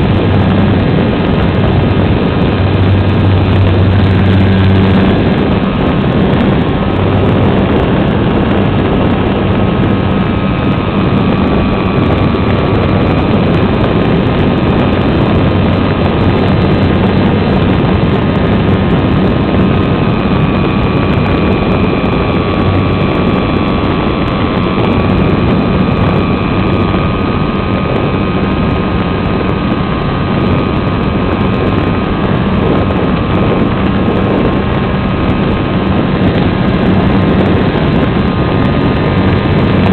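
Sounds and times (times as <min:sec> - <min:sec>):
electric motor and propeller whine: 0:00.0 - 0:39.9
wind rush on microphone: 0:00.0 - 0:39.9.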